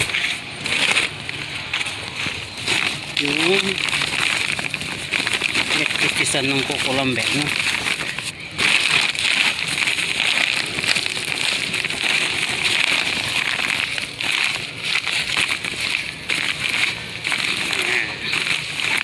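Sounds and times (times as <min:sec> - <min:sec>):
crackling rustle of dry material: 0:00.0 - 0:19.0.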